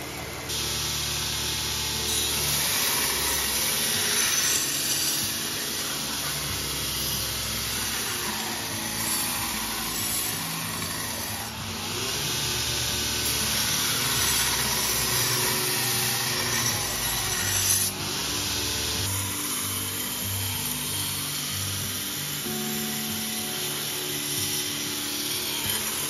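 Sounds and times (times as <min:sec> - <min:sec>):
belt grinder grinding steel: 0:00.0 - 0:26.0.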